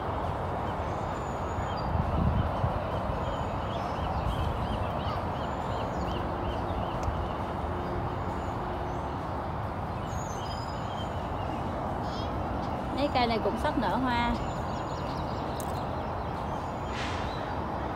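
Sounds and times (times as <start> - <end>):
steady background rush: 0.0 - 17.9
bird chirping: 1.0 - 17.6.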